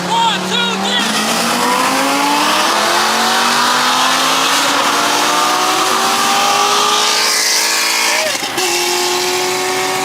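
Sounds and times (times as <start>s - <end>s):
car engines at full throttle: 0.0s - 10.0s.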